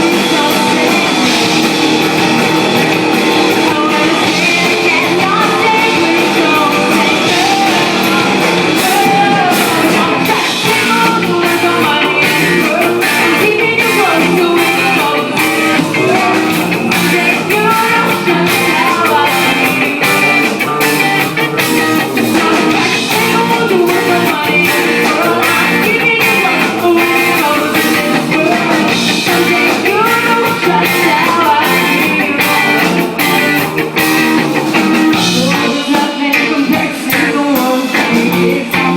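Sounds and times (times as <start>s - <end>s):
person singing: 0.0s - 34.3s, 35.0s - 38.9s
guitar: 0.0s - 38.9s.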